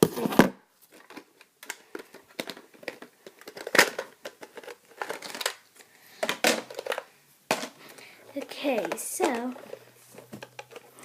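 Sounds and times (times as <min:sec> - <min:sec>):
toy packaging crinkling and rustling: 0:00.0 - 0:11.0.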